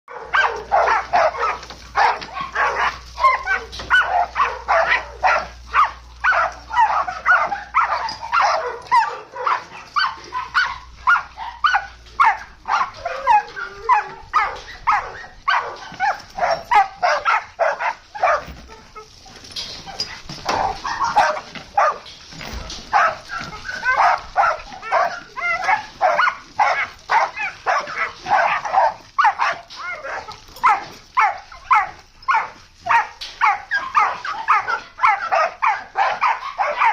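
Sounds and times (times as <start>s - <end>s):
dog barking and yipping: 0.1s - 36.9s.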